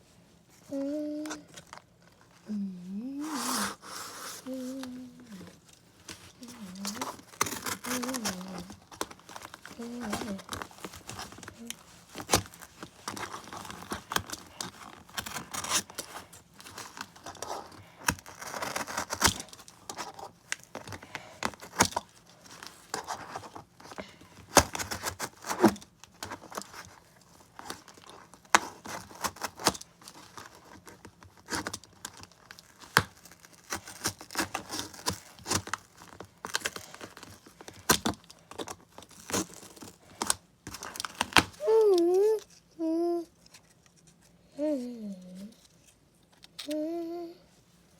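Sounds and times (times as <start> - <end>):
cardboard rustling and tearing: 0.7 - 46.8.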